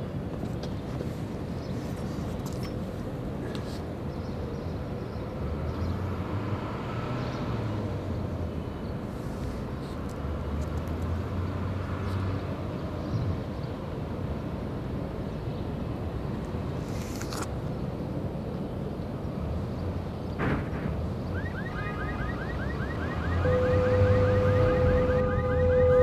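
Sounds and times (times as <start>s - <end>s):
distant city traffic rumble: 0.0s - 26.0s.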